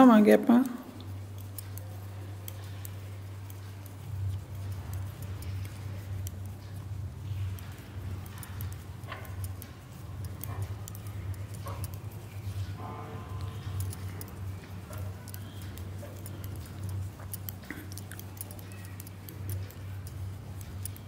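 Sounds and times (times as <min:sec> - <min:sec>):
metal knitting needles clicking: 0:00.0 - 0:21.0.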